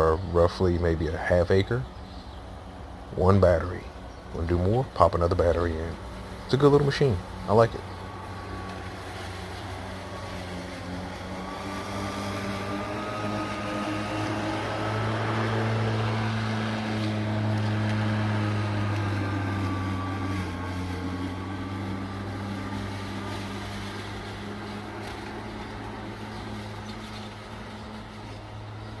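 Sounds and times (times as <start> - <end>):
electric lawn mower humming: 0.0 - 29.0.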